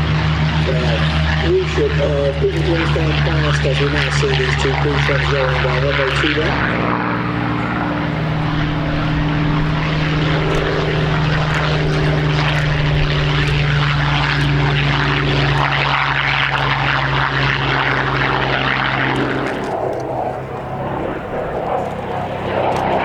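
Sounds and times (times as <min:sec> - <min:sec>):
propeller aircraft engines droning: 0:00.0 - 0:23.0.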